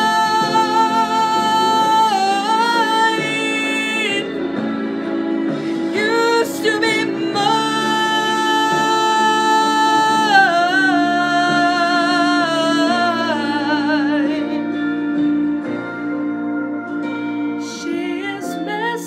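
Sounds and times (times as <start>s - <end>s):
woman singing a ballad: 0.0s - 15.9s, 17.0s - 19.0s.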